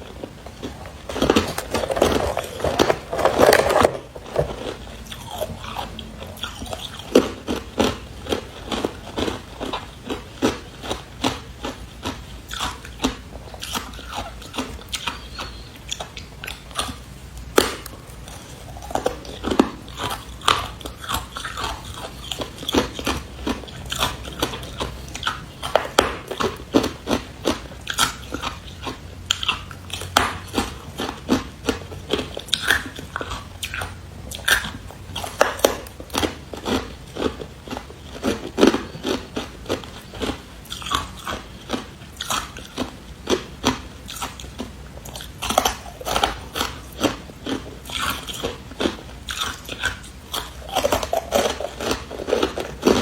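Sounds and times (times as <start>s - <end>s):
ice crunching being chewed: 0.0s - 53.0s.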